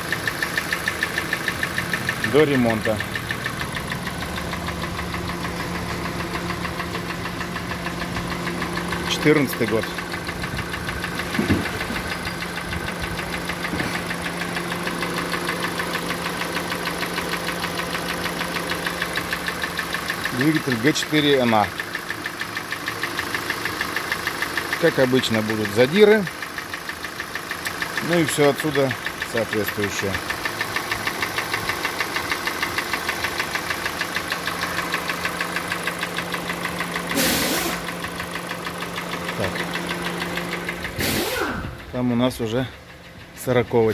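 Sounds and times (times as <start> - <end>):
car engine idling with knocking: 0.0 - 43.9.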